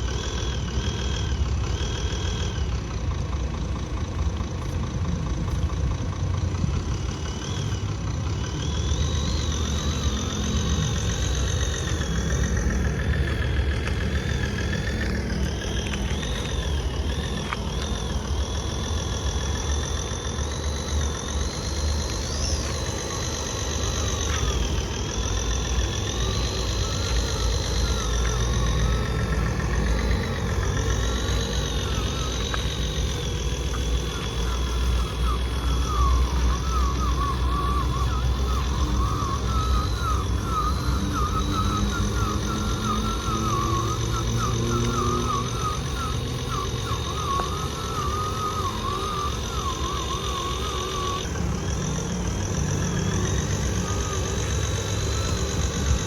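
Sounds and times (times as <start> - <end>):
high whine rising and falling: 0.0 - 56.0
toy engine idle rumble: 0.0 - 56.0.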